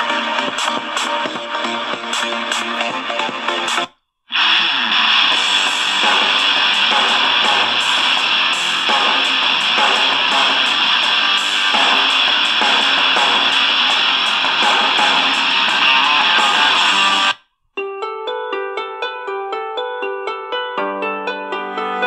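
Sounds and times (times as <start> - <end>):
guitar music from small radio speaker: 0.0 - 22.0.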